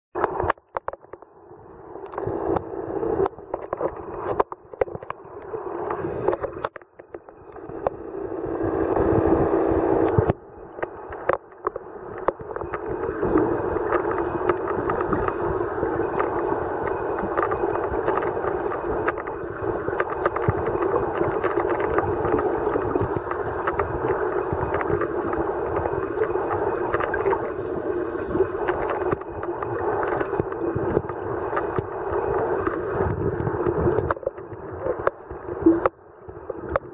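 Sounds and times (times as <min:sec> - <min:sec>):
sharp crackling clicks: 0:00.2 - 0:01.3, 0:03.2 - 0:08.0, 0:10.0 - 0:36.0
underwater drone: 0:00.2 - 0:36.9.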